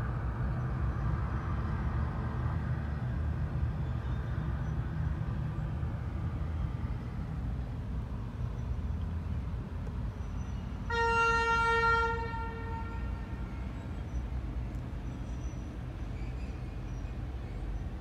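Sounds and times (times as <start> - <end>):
freight train rumble: 0.0 - 18.0.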